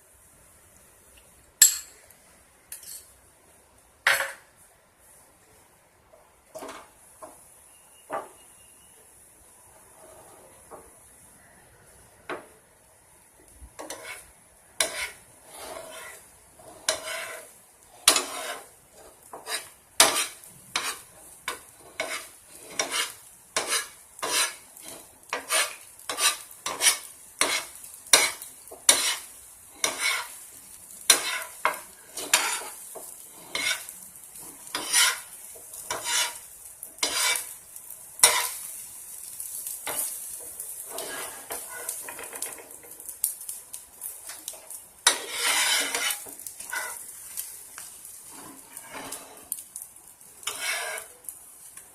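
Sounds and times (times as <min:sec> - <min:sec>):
faint sizzle: 0:00.0 - 0:51.9.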